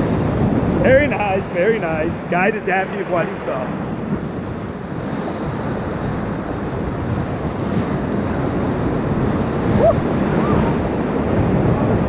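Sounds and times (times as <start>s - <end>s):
whitewater rushing: 0.0s - 3.8s, 4.7s - 12.0s
wind on microphone: 0.0s - 12.0s.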